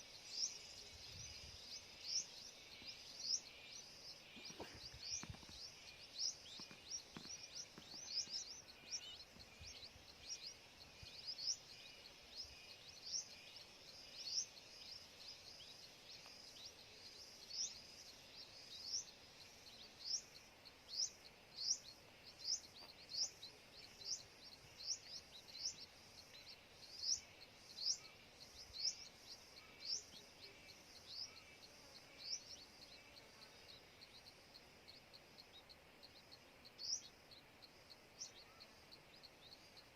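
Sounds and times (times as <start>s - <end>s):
bird chirping: 0.0s - 39.9s
faint steady hiss: 0.0s - 39.9s.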